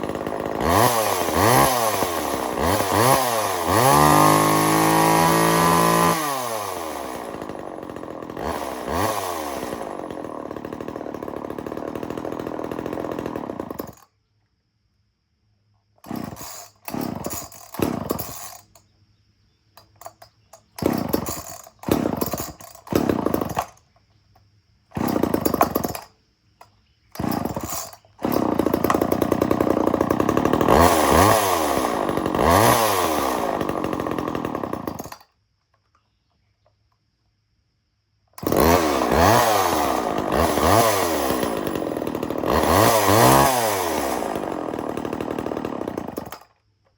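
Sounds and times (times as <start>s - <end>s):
chainsaw pull-start bursts: 0.0s - 14.1s, 16.0s - 18.8s, 19.8s - 24.0s, 24.9s - 26.2s, 27.1s - 35.3s, 38.4s - 46.6s
chainsaw running: 0.0s - 14.1s, 16.0s - 18.8s, 19.8s - 23.9s, 24.9s - 26.2s, 27.1s - 35.3s, 38.4s - 46.5s.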